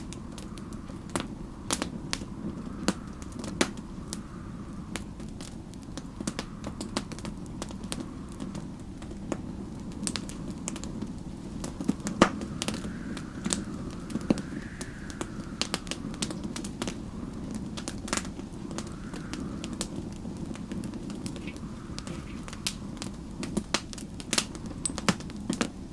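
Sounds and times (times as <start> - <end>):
faint whistling storm wind: 0.0 - 25.9
steady low rumble: 0.0 - 25.9
wood fire crackling and popping: 0.0 - 25.9.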